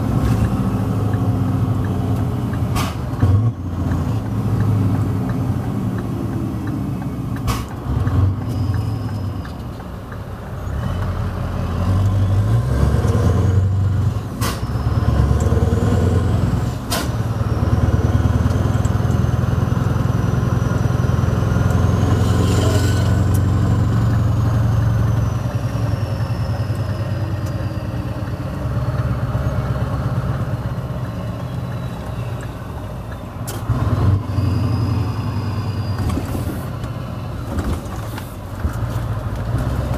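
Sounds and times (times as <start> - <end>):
diesel truck engine: 0.0 - 39.9.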